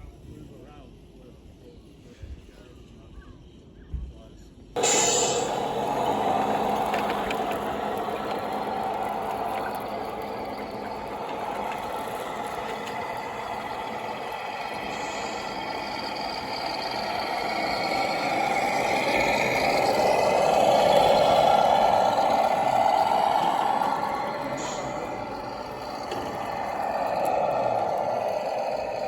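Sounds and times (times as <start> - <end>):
model truck whirring drone: 4.8 - 29.0.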